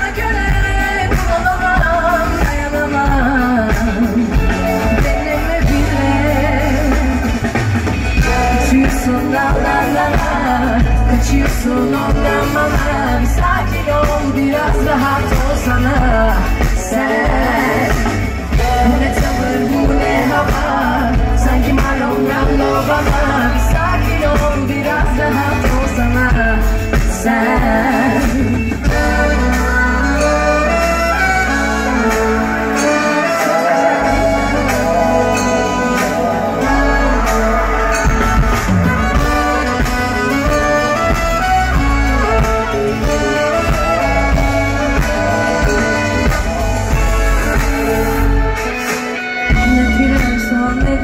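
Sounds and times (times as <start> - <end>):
live pop band playing: 0.0 - 51.0
woman singing: 0.0 - 51.0.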